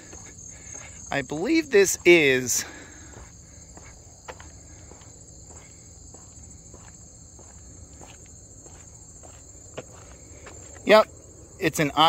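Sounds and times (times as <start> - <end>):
footsteps on brick path: 0.0 - 11.0.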